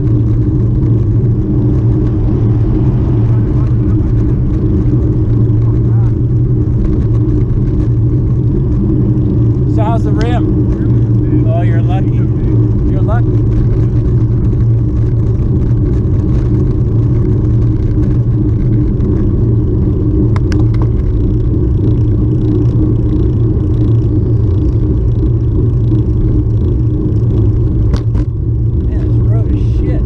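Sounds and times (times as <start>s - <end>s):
wind and road noise rumble: 0.0s - 30.0s.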